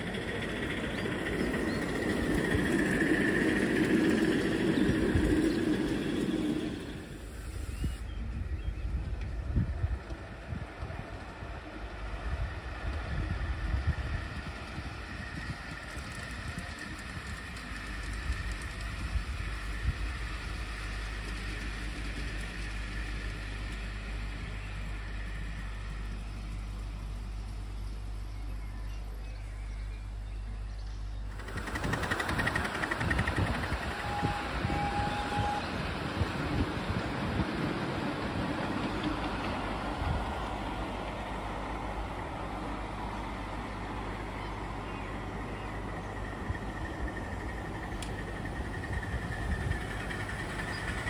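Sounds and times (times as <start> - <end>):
miniature train wheels rumbling on rails: 0.0 - 7.8, 9.0 - 28.2, 31.2 - 51.0.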